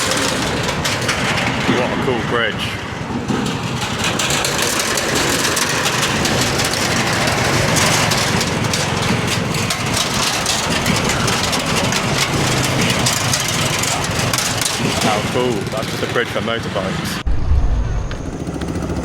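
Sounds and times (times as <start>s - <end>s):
motorbike engines running: 0.0s - 17.3s, 18.0s - 19.0s.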